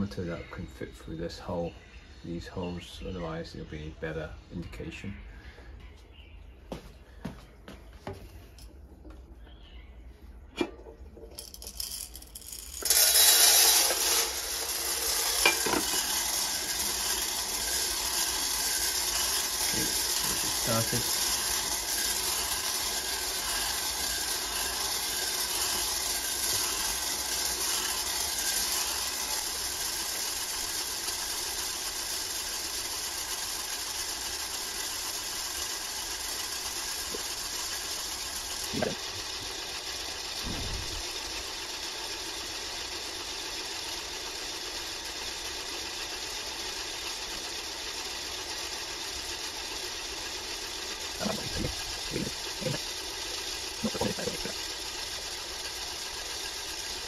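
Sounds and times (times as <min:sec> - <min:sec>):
coffee roaster motor running: 0:00.0 - 0:05.9, 0:07.3 - 0:57.0
coffee beans rattling in pan: 0:10.7 - 0:57.0.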